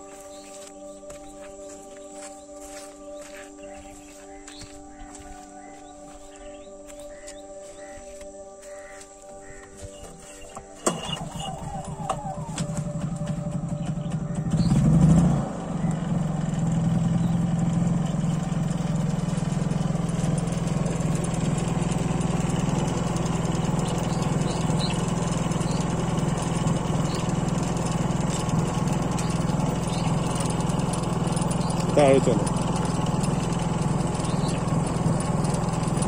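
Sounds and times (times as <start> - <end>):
generator engine running: 0.0 - 36.0.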